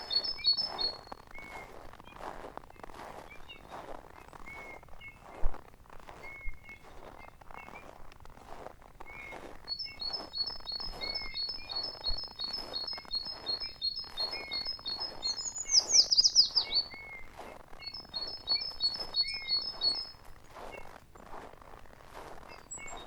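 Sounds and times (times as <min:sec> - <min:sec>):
songbirds chirping: 0:00.0 - 0:08.2, 0:09.0 - 0:21.4, 0:22.1 - 0:23.0.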